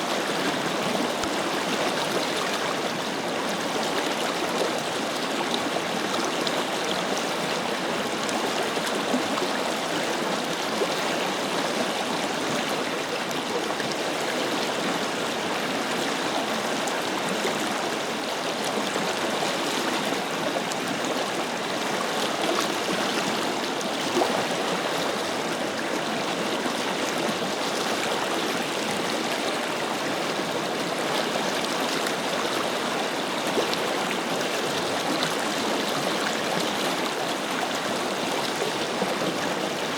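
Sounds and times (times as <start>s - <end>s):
river water rushing and babbling: 0.0s - 39.9s.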